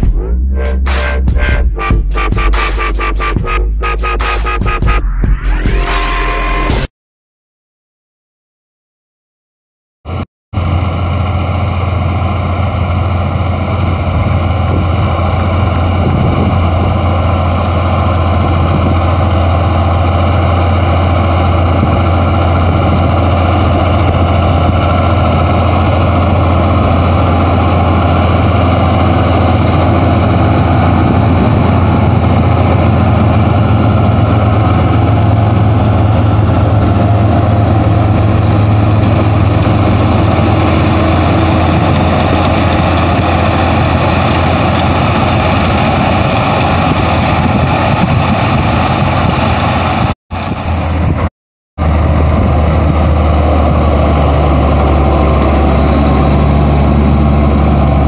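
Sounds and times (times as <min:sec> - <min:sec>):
tractor diesel engine running: 0:00.0 - 0:05.0, 0:10.1 - 0:51.2, 0:51.8 - 0:58.0.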